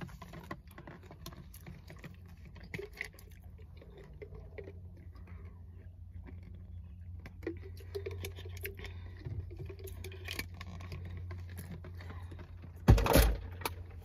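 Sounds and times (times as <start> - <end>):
low hum inside car: 0.0 - 14.0.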